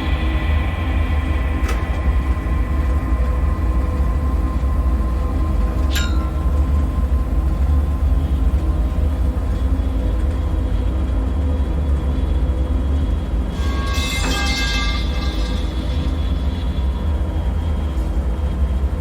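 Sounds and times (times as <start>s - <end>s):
deep ambient drone: 0.0s - 19.0s.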